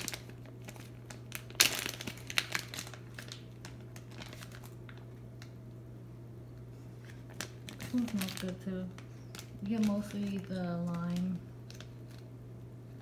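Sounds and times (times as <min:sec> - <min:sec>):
plastic bag crinkling: 0:00.0 - 0:05.6, 0:07.0 - 0:12.4
faint low hum: 0:00.0 - 0:13.0.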